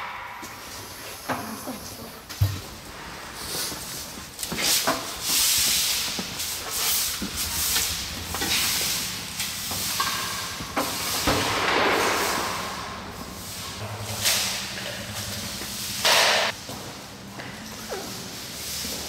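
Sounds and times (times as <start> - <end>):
broom sweeping concrete floor: 0.4 - 19.0.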